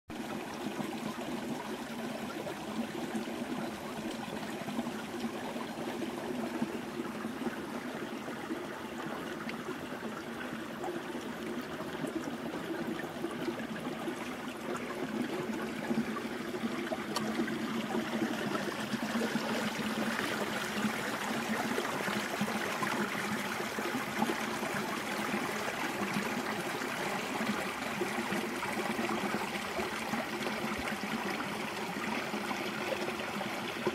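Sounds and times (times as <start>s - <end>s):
forest stream trickling: 0.1s - 33.9s.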